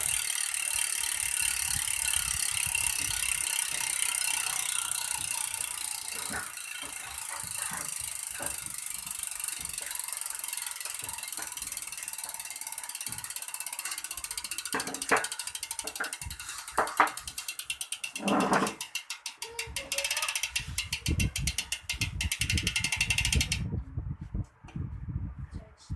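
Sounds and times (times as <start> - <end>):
bicycle freehub ratcheting: 0.0 - 23.7.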